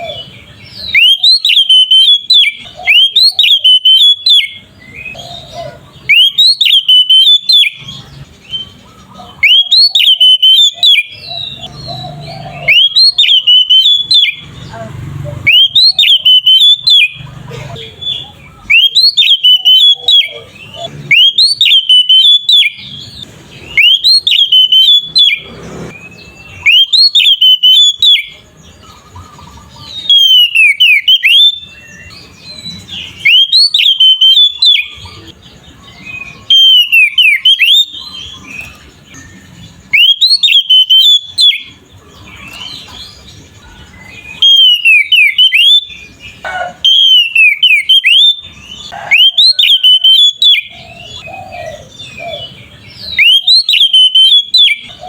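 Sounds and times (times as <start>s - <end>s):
magpie-robin whistled song: 0.0s - 55.0s.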